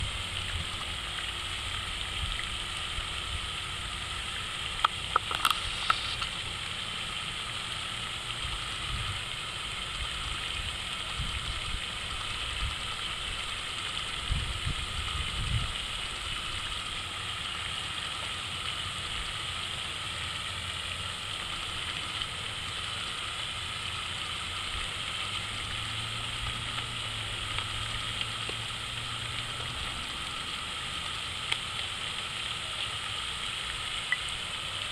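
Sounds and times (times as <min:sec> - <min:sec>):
water fountain splashing: 0:00.0 - 0:34.9.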